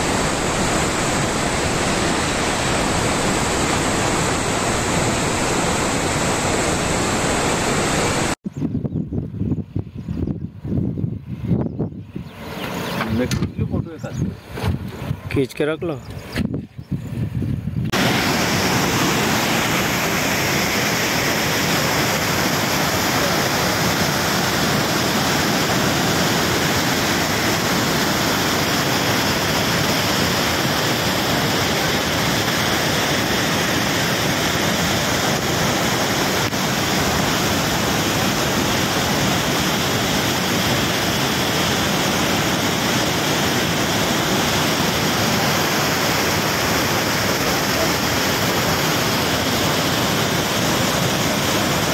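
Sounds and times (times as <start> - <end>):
loud rush of waterfall: 0.0 - 8.4, 17.9 - 51.9.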